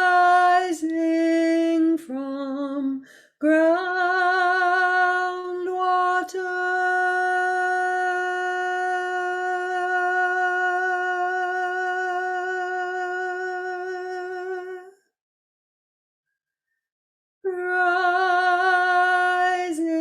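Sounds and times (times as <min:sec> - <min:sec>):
woman singing a long tone: 0:00.0 - 0:15.0, 0:17.4 - 0:20.0.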